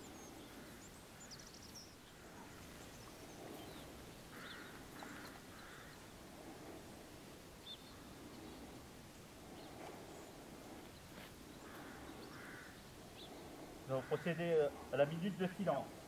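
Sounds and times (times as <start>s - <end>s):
faint bird chirps: 0.0s - 6.2s, 7.6s - 14.8s
short bird calls: 0.0s - 6.8s, 9.5s - 15.8s.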